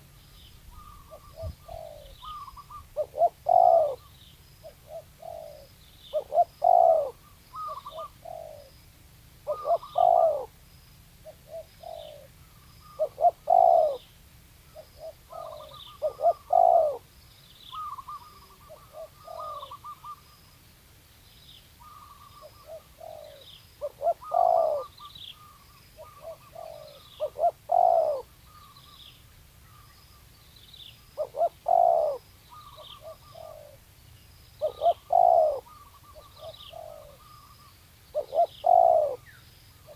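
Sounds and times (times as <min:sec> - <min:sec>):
dove cooing: 0:00.7 - 0:08.8, 0:09.4 - 0:10.6, 0:11.2 - 0:14.1, 0:14.7 - 0:17.1, 0:17.7 - 0:20.4, 0:21.8 - 0:28.9, 0:31.1 - 0:33.8, 0:34.6 - 0:39.9.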